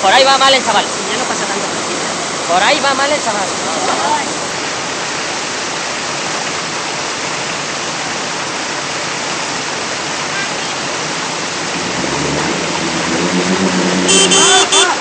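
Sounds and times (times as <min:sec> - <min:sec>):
floodwater rushing over rocks: 0:00.0 - 0:15.0
vehicle engine: 0:00.0 - 0:15.0.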